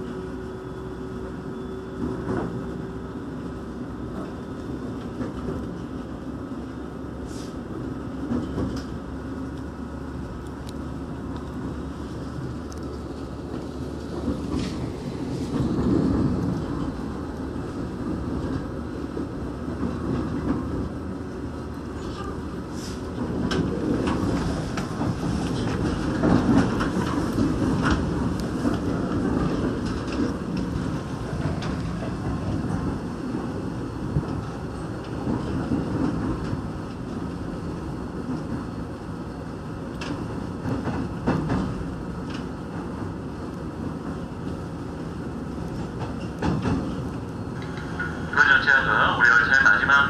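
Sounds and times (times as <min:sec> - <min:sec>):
wheels rumbling on rails: 0:00.0 - 0:50.0
clacks over rail joints: 0:04.1 - 0:06.1, 0:08.1 - 0:09.7, 0:12.4 - 0:22.4, 0:23.0 - 0:50.0.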